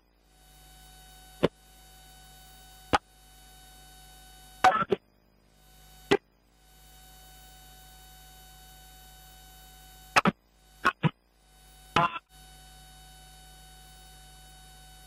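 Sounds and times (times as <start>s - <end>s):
electrical hum with thin tones: 0.0s - 15.0s.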